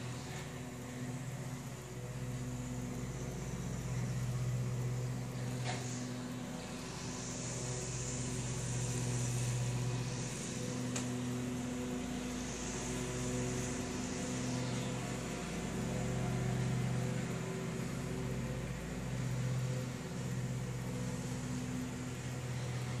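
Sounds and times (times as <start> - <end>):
distant lawn mower engine: 0.0 - 23.0.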